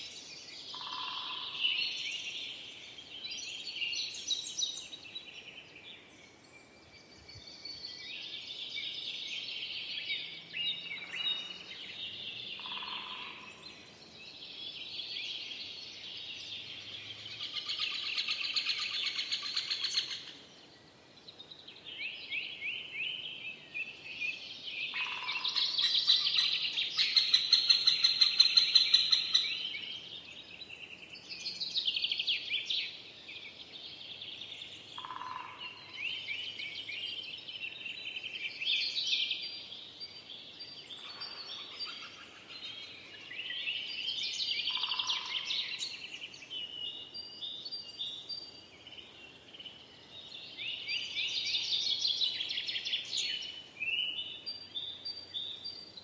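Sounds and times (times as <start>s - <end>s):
songbirds chorus: 0.0s - 56.0s.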